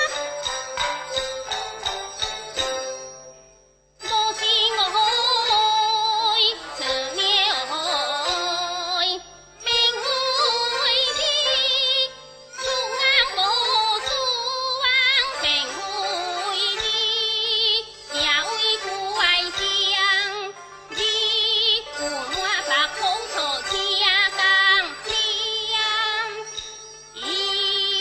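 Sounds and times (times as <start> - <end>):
instrumental accompaniment: 0.0 - 28.0
opera singing with vibrato: 4.0 - 26.4, 27.2 - 28.0.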